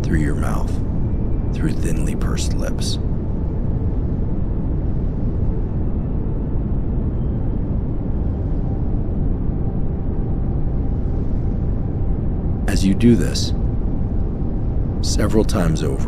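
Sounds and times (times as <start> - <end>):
steady pink noise: 0.0 - 16.0.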